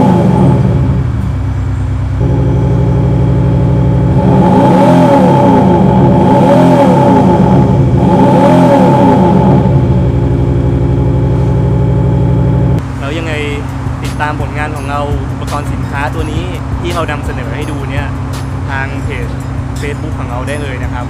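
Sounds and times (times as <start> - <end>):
car engine idling and revving: 0.0 - 21.0
synthetic exhaust note: 0.0 - 21.0.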